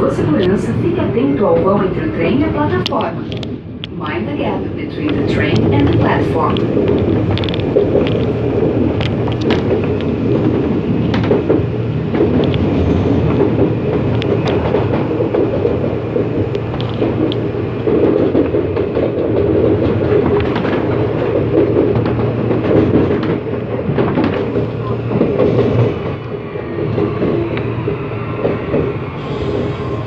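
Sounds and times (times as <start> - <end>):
train rumbling drone: 0.0 - 30.0.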